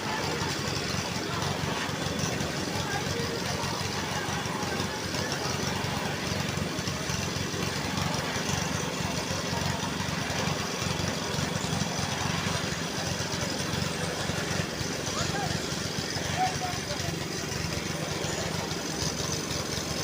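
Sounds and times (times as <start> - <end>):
heavy machinery engine running: 0.0 - 20.0.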